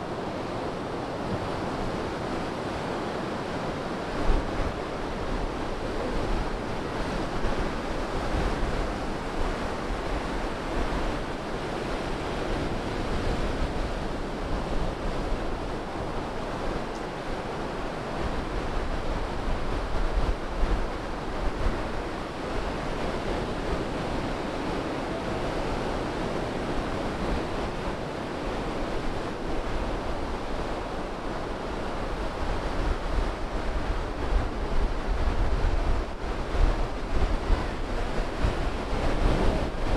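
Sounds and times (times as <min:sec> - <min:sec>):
ocean surf breaking: 0:00.0 - 0:39.9
wind rumbling on microphone: 0:00.0 - 0:39.9.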